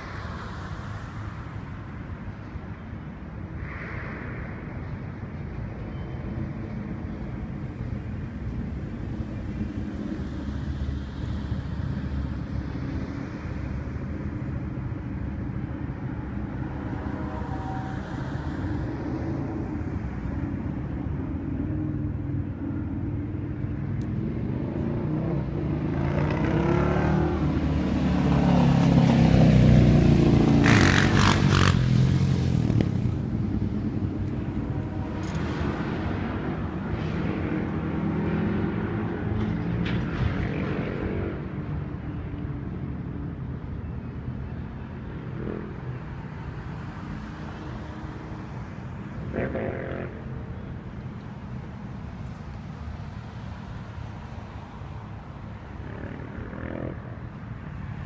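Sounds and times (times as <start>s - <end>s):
road vehicle passing: 0.0s - 58.0s.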